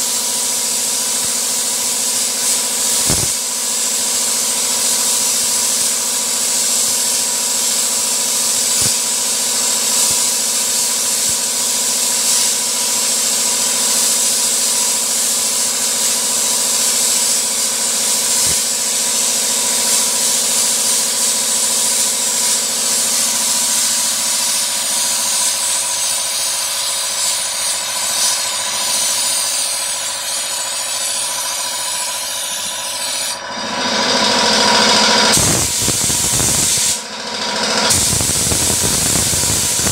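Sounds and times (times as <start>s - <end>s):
sandblasting gun hissing: 0.0s - 37.1s, 37.8s - 39.9s.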